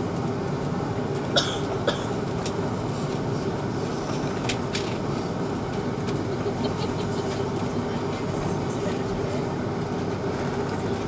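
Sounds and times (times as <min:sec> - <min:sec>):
airplane cabin hum: 0:00.0 - 0:11.0.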